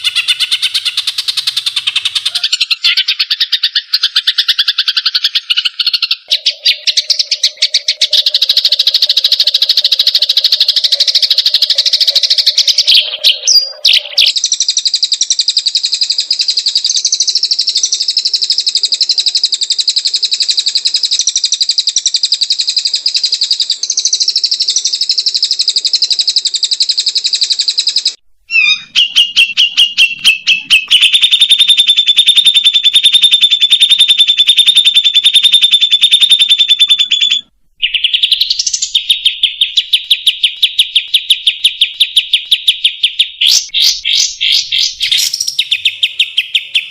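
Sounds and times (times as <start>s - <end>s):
songbird buzzy trills: 0.0s - 46.9s.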